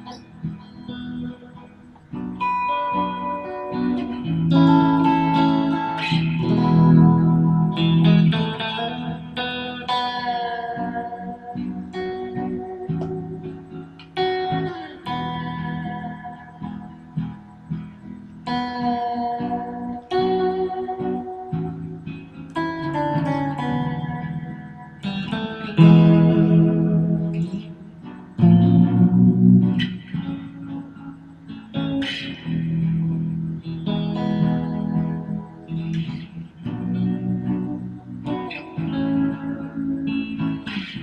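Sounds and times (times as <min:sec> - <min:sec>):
electric guitar played slowly: 0:00.0 - 0:41.0.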